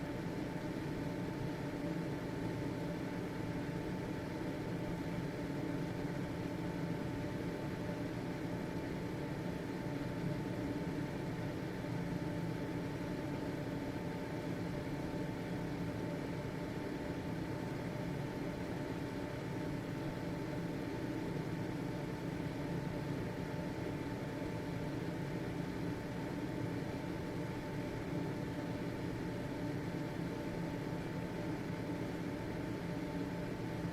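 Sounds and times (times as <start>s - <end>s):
ventilation fan humming: 0.0s - 33.9s.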